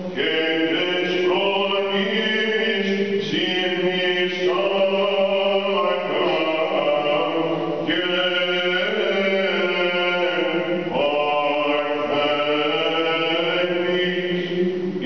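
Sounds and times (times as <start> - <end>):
cantor chanting long held notes: 0.0 - 15.0.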